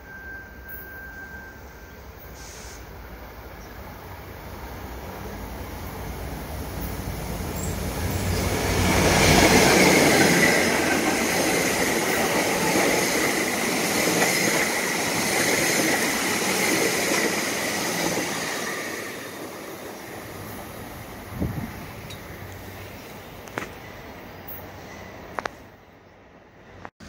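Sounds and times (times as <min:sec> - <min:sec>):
train coaches rumbling on rails: 0:02.0 - 0:26.9.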